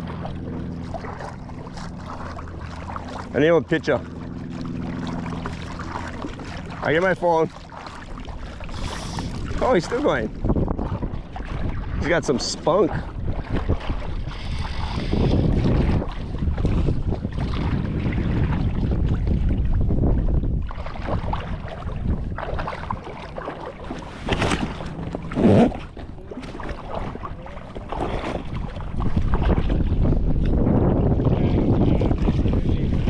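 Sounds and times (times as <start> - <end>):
shallow water lapping: 0.0 - 33.0
wind on microphone: 0.0 - 33.0.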